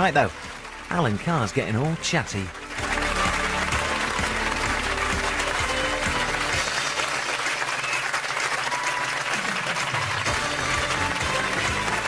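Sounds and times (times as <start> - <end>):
audience applauding: 0.0 - 12.0
closing theme music: 0.0 - 12.0.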